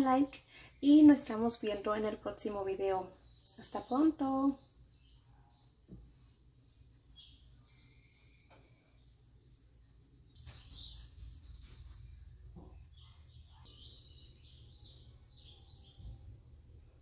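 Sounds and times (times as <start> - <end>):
low steady hum: 0.0 - 17.0
small birds chirping: 0.0 - 17.0.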